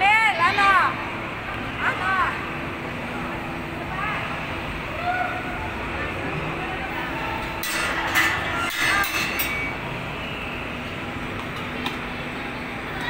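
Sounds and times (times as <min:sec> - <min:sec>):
amusement ride rumbling: 0:00.0 - 0:13.0.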